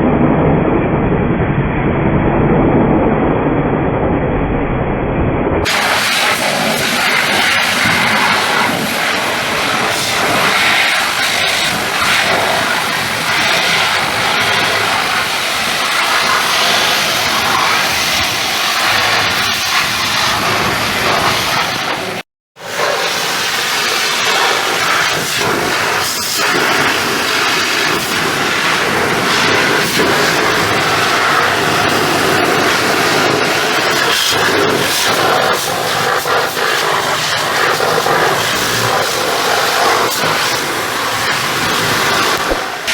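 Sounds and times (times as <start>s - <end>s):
pressure washer spray hissing: 5.6s - 42.9s.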